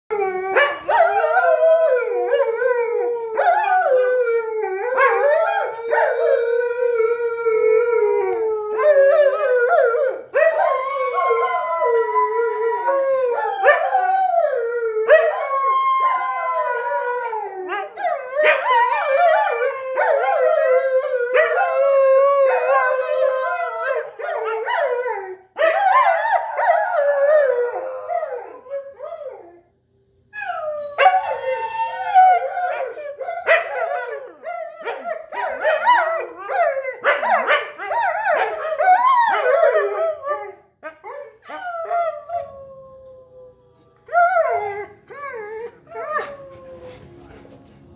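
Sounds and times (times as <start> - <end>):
dogs howling: 0.1 - 29.7, 30.4 - 47.0.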